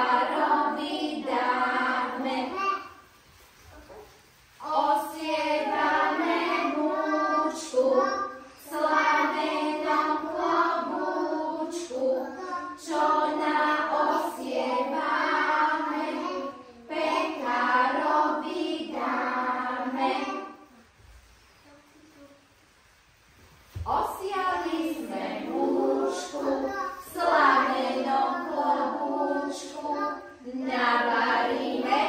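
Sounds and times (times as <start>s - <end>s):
children singing together: 0.0s - 3.1s, 3.7s - 20.8s, 23.8s - 32.0s.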